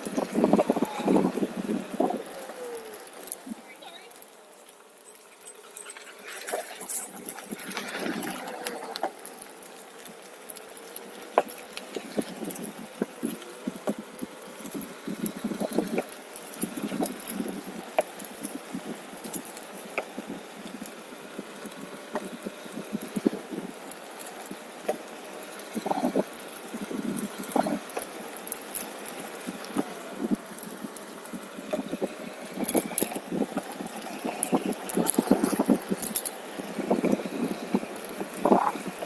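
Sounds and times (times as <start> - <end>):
faint thin whine: 0.0 - 39.0.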